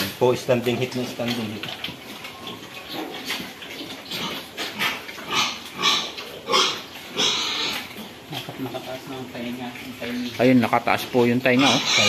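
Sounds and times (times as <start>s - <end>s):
sows grunting: 0.8s - 12.0s.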